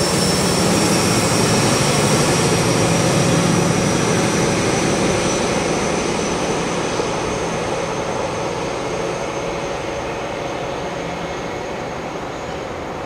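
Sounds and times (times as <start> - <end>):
diesel train engine with high whine: 0.0 - 13.0.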